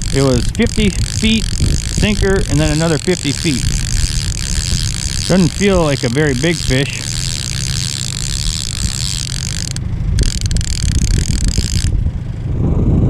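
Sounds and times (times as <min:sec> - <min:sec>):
boat motor running: 0:00.0 - 0:12.6.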